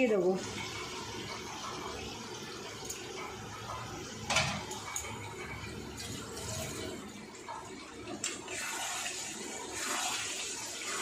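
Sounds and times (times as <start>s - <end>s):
curry sizzling in a pan: 0.0s - 11.0s.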